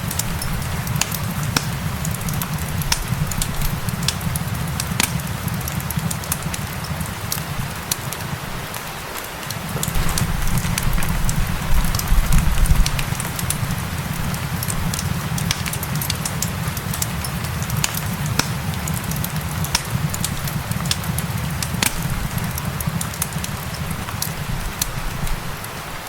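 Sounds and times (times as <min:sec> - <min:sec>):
rain hissing: 0:00.0 - 0:26.0
wood fire crackling: 0:00.0 - 0:26.0.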